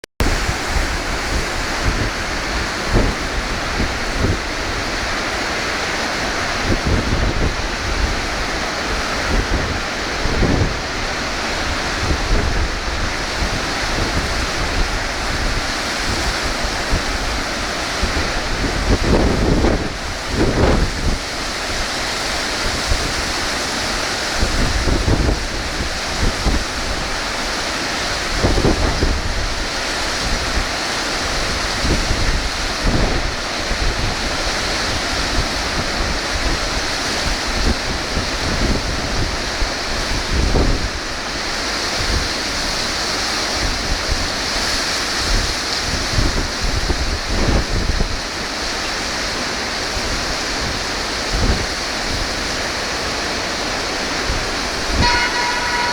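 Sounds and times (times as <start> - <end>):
strong wind: 0.2 - 55.9
surf: 0.2 - 55.9
wind buffeting microphone: 0.2 - 55.9.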